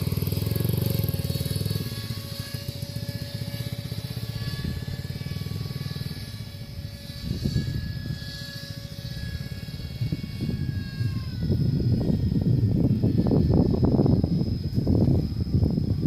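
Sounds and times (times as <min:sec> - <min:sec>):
model plane motor whine: 0:00.0 - 0:16.0.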